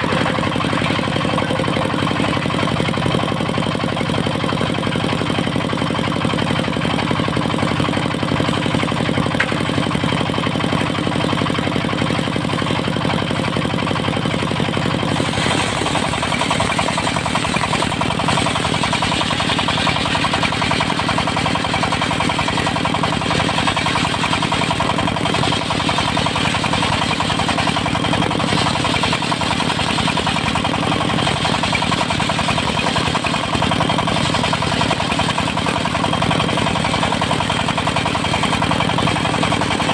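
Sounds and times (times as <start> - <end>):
diesel engine driving a sawmill: 0.0 - 39.9.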